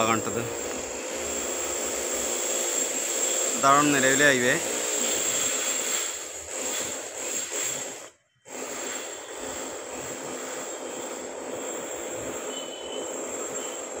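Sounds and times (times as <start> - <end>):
faint high whine: 0.0 - 6.8, 7.4 - 14.0
steady hiss: 0.0 - 14.0.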